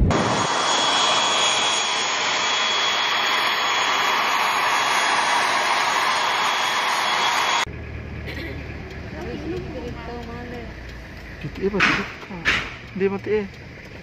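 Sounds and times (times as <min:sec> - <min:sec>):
aircraft engine noise: 0:00.0 - 0:14.0
high engine whine: 0:00.0 - 0:14.0.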